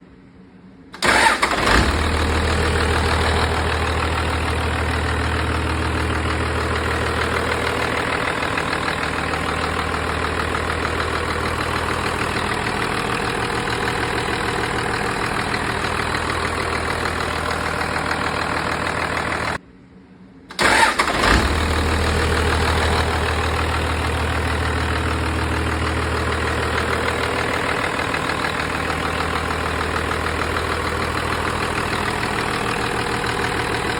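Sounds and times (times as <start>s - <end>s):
diesel engine starting and idling: 1.0s - 19.6s, 20.5s - 33.9s.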